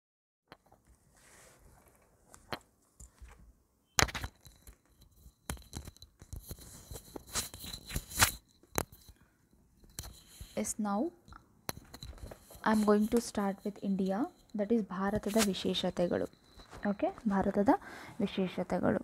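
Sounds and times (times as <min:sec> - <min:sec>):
handling rustling and clicking: 0:01.6 - 0:10.6, 0:11.2 - 0:17.5.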